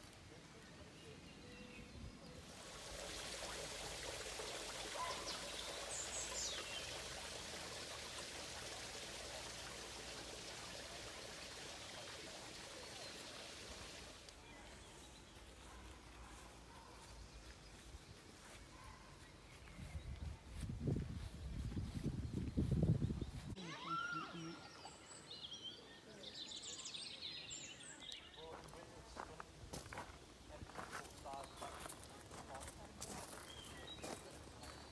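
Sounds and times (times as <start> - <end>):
stream running water: 0.0 - 22.0, 22.7 - 34.9.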